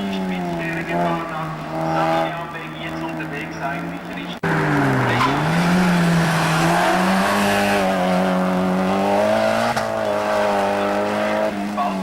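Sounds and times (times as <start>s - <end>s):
race car engine revving: 0.0s - 12.0s
tyre and road noise: 0.0s - 12.0s.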